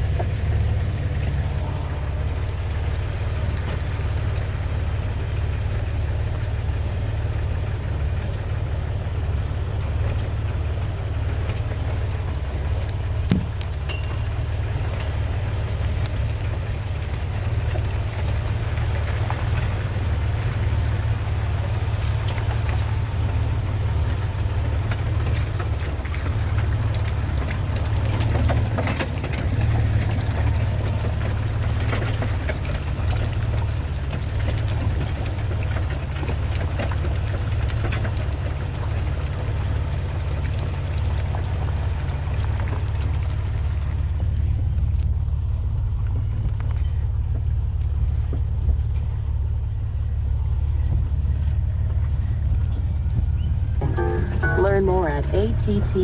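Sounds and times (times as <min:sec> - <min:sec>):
rain tapping: 0:00.0 - 0:56.0
vehicle engine rumble: 0:00.0 - 0:56.0.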